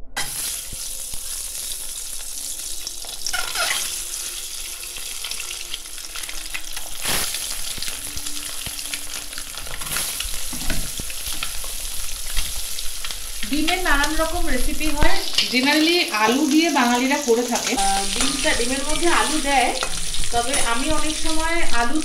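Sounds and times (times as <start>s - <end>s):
eggs sizzling and crackling in oil: 0.2s - 22.0s.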